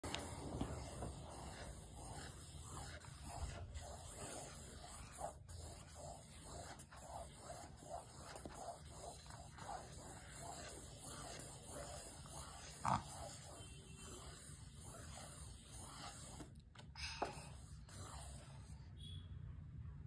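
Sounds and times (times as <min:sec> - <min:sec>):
felt-tip pen scribbling on paper: 0:00.0 - 0:16.5, 0:17.6 - 0:18.6.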